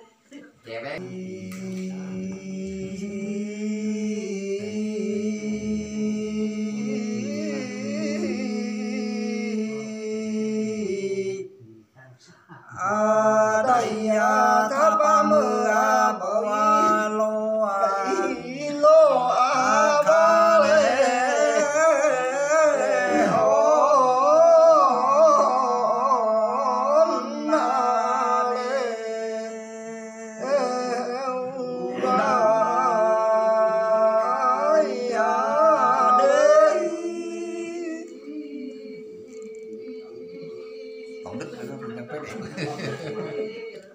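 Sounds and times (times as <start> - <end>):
man singing unaccompanied: 1.0 - 11.6, 12.8 - 41.9.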